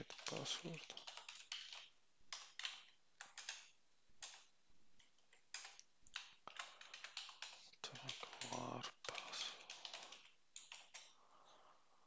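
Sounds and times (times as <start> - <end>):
faint keyboard typing: 0.0 - 11.7.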